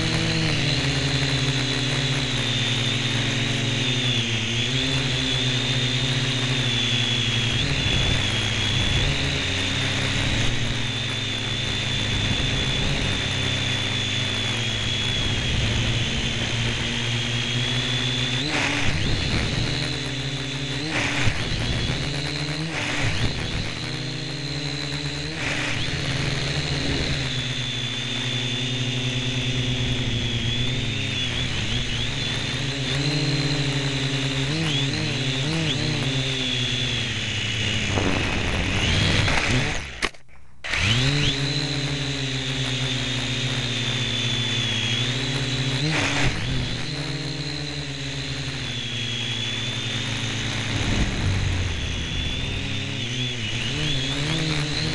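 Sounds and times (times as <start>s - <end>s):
toy drone motors whining: 0.0s - 54.9s.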